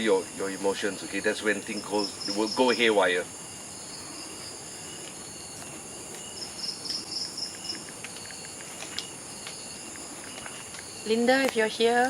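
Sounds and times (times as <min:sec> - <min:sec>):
crickets and night insects chorus: 0:00.0 - 0:12.0
loud pulsing insect trill: 0:00.0 - 0:12.0.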